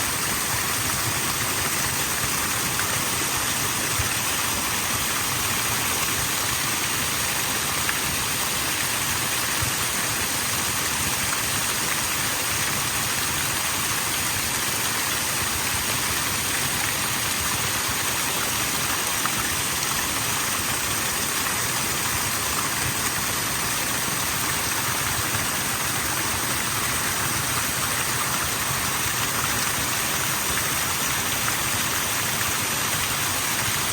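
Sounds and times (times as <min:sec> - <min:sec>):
waterfall hissing: 0:00.0 - 0:33.9.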